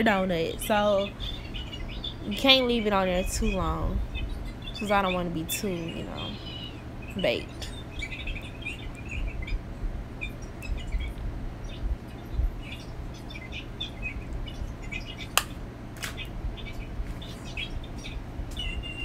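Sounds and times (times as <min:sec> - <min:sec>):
small bird chirping: 0:01.0 - 0:09.6, 0:10.2 - 0:15.5, 0:16.2 - 0:19.0.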